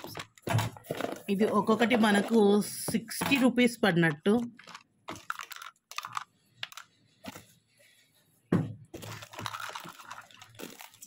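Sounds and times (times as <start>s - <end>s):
plastic spoons and bowls clattering: 0.0s - 7.6s, 8.8s - 11.0s.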